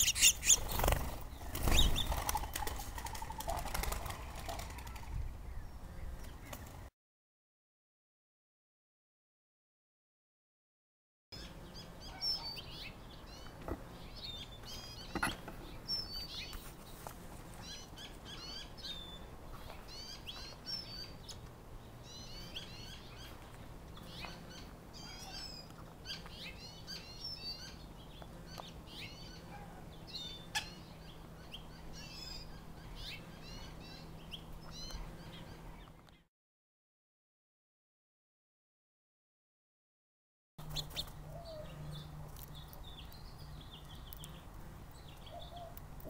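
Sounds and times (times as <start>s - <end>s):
birds chirping: 0.0s - 6.9s, 11.4s - 36.2s, 40.6s - 46.0s.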